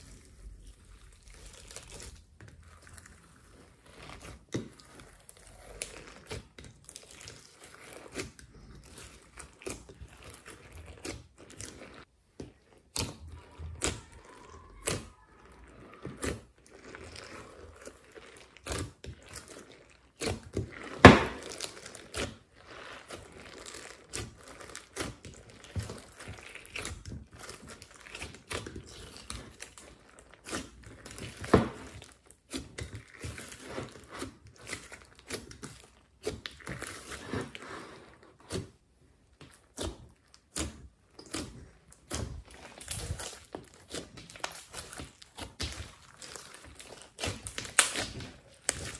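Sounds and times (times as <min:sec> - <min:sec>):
hands squishing slime: 0:00.0 - 0:48.9.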